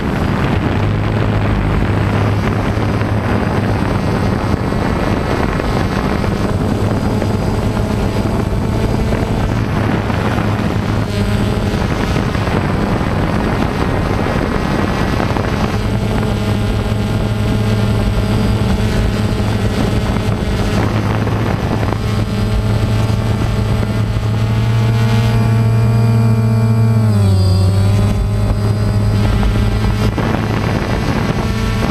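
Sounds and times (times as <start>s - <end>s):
drone propellers buzzing whine: 0.0s - 31.9s
rush of air: 0.0s - 31.9s.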